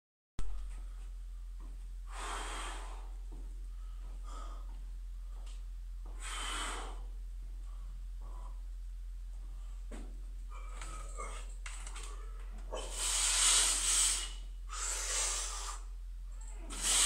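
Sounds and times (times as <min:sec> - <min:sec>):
steady low hum: 0:00.4 - 0:17.0
forceful breaths: 0:02.1 - 0:17.0.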